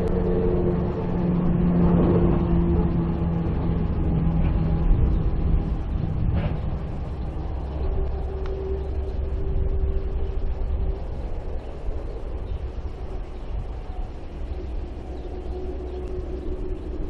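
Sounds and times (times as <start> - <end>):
steady droning tone: 0.0 - 17.0
vehicle engine running: 0.0 - 17.0.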